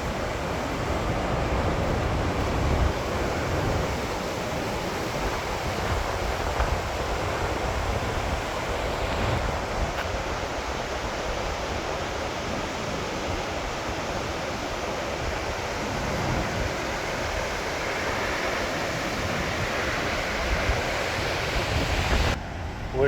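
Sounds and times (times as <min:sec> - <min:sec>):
waterfall rushing: 0:00.0 - 0:22.4
wind buffeting microphone: 0:00.0 - 0:23.0.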